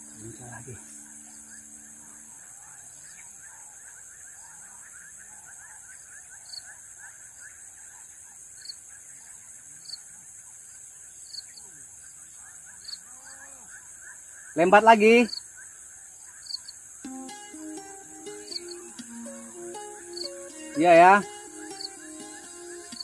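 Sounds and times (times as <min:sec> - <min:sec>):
rapid chirping chorus: 0:00.0 - 0:09.4, 0:11.3 - 0:23.0
high insect drone: 0:00.0 - 0:23.0.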